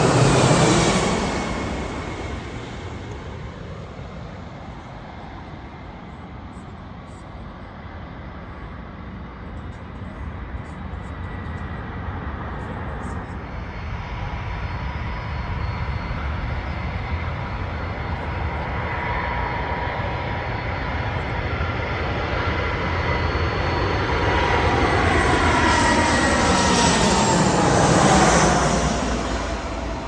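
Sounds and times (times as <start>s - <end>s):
jet engines whining: 0.0s - 6.4s, 11.2s - 30.0s.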